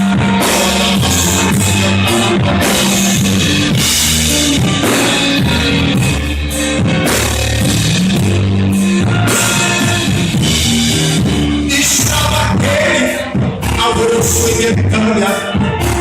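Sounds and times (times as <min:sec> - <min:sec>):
drum kit beat: 0:00.0 - 0:16.0
guitar and bass: 0:00.0 - 0:16.0.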